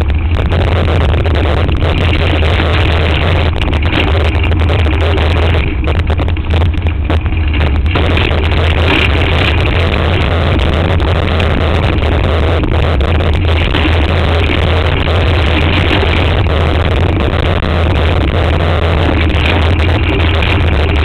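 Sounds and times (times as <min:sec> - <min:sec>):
wind rumble on camera: 0:00.0 - 0:21.0.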